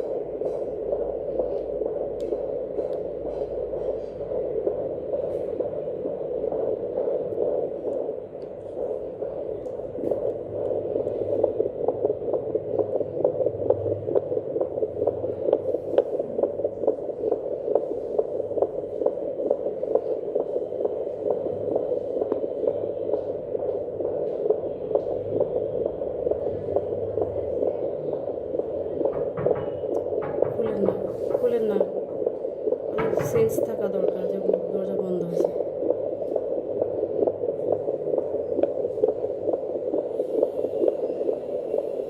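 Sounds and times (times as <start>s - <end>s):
static hiss: 0.0s - 42.0s
whooshing heartbeat pulse: 0.0s - 42.0s.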